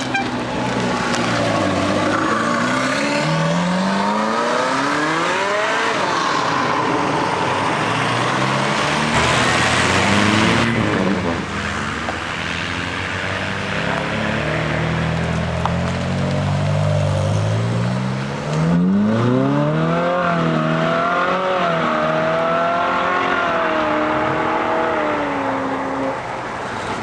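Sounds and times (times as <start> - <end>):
engine and road noise rush: 0.0 - 27.0
car engine accelerating: 0.6 - 25.7.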